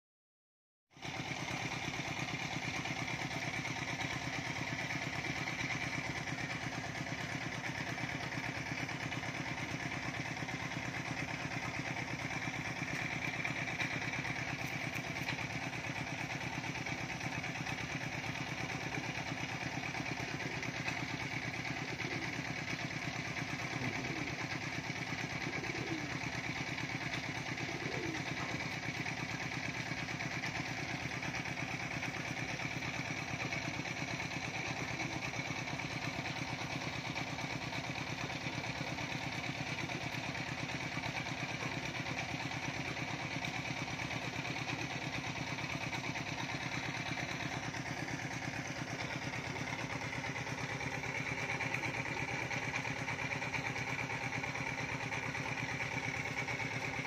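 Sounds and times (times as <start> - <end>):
small engine idling: 0.9 - 57.0.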